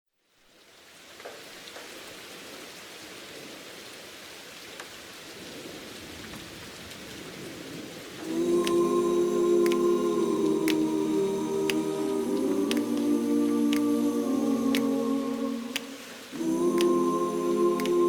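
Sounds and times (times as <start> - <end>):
steady rain falling: 0.2 - 18.0.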